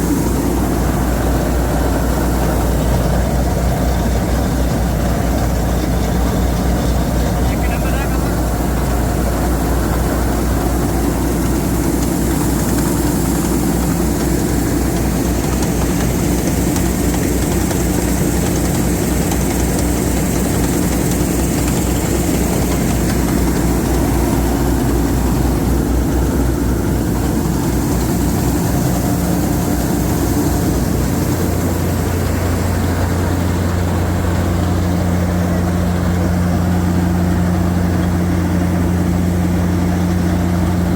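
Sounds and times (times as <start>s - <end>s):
combine harvester engine running: 0.0s - 40.9s.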